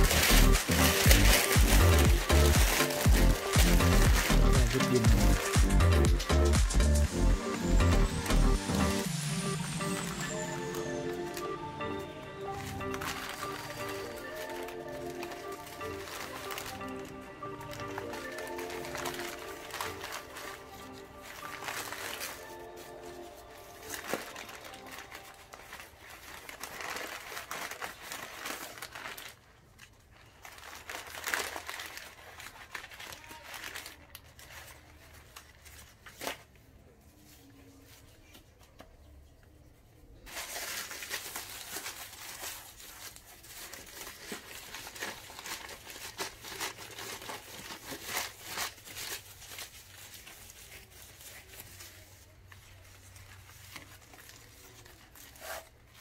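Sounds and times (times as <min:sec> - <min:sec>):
wrapping material crinkling: 0:00.0 - 0:56.0.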